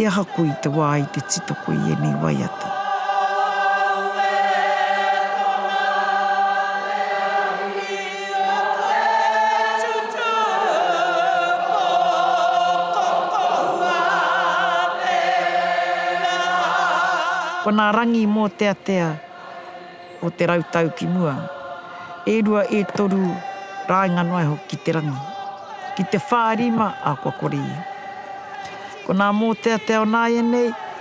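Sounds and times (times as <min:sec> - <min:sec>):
group chanting in unison: 0:00.0 - 0:31.0.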